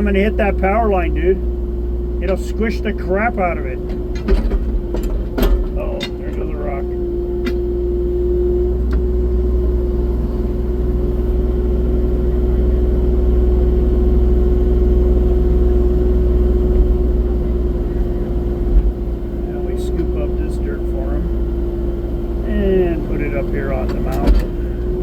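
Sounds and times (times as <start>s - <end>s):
excavator engine rumble: 0.0s - 25.0s
whining hum: 0.0s - 25.0s.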